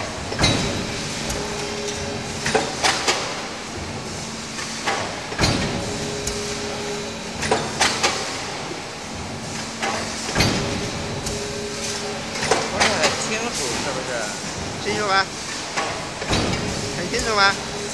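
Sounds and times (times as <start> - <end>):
machine hum: 0.0 - 17.9.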